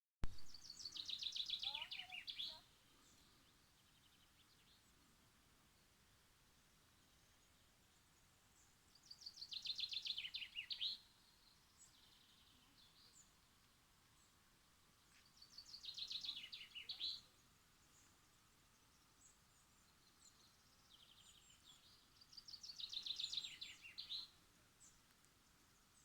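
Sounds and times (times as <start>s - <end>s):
songbird singing: 0.2s - 6.0s, 6.7s - 26.0s.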